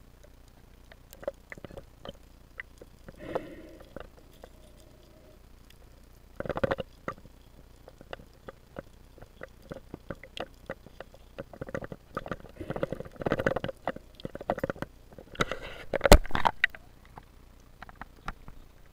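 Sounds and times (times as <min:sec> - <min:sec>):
underwater clicks and crackles: 0:00.0 - 0:18.9.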